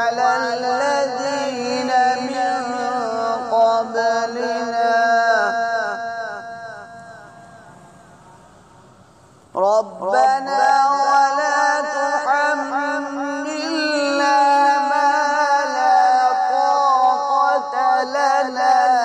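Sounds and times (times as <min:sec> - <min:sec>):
man reciting melodically: 0:00.0 - 0:08.2, 0:09.5 - 0:19.0.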